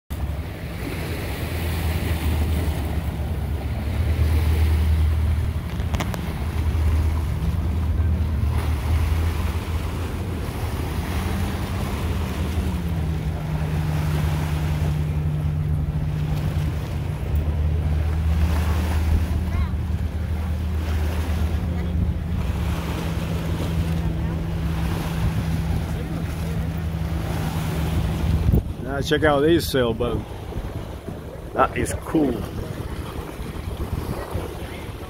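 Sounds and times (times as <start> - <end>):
boat engine drone: 0.1 - 35.0
choppy water splashing: 0.1 - 35.0
wind buffeting microphone: 0.4 - 35.0.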